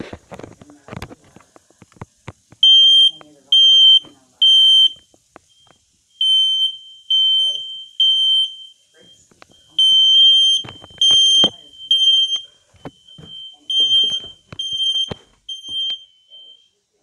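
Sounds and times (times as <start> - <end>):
smoke alarm beeping: 2.6 - 17.0.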